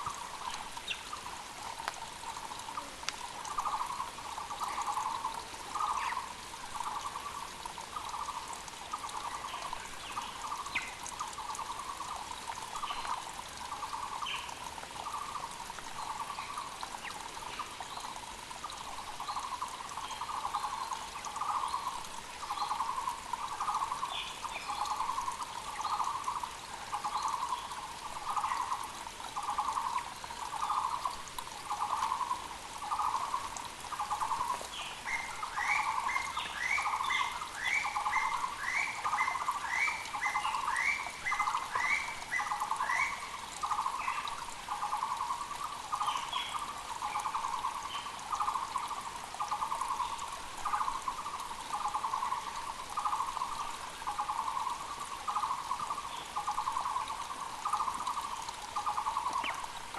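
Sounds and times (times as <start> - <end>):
mountain creek rushing: 0.0 - 59.9.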